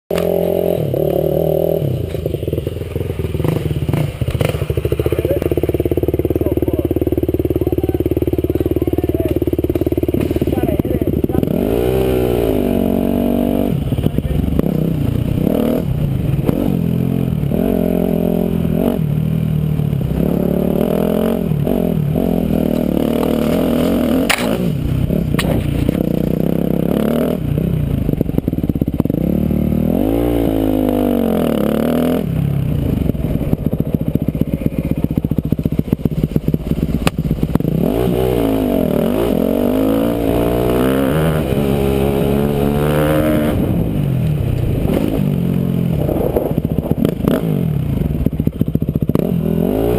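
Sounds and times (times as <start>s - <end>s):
dirt bike engine revving: 0.1s - 49.9s.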